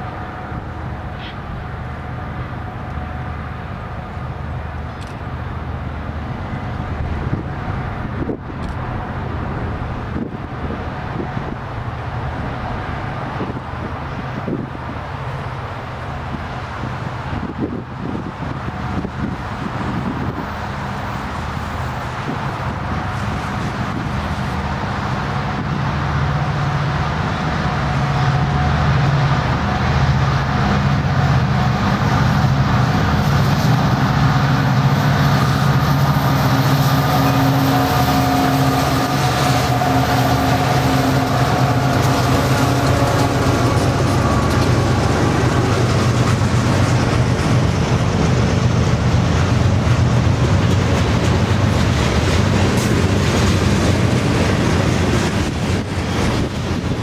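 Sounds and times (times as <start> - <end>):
diesel locomotive engine drone: 0.0 - 57.0
wheels clattering on rail joints: 6.8 - 57.0.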